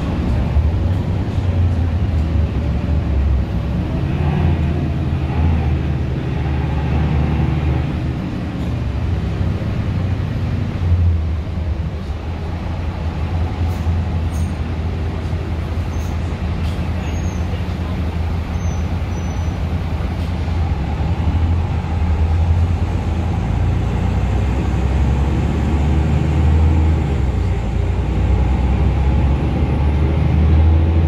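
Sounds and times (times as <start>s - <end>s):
bus diesel engine drone: 0.0s - 31.0s
road noise: 0.0s - 31.0s.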